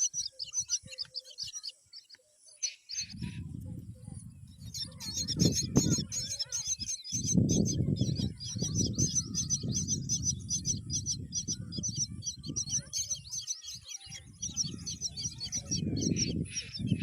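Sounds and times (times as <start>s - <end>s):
chicks chirping: 0.0s - 17.0s.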